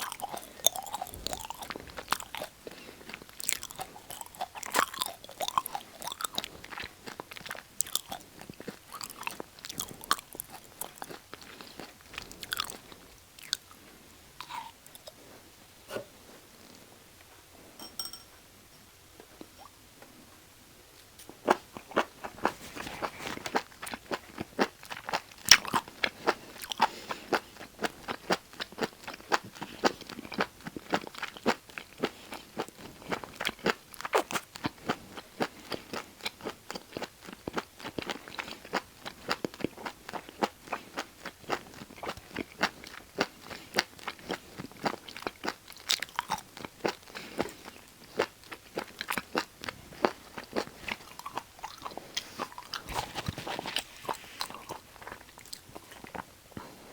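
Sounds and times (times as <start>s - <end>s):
crunchy chewing of food: 0.0s - 15.6s, 21.2s - 56.9s.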